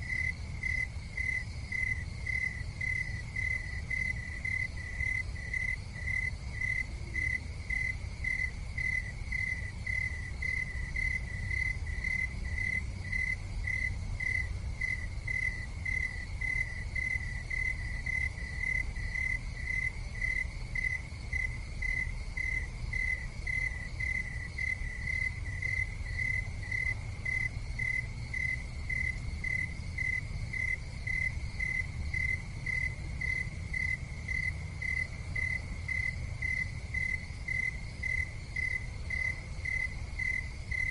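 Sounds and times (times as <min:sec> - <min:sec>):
insect chirping: 0:00.0 - 0:40.9
low steady rumble: 0:00.0 - 0:40.9.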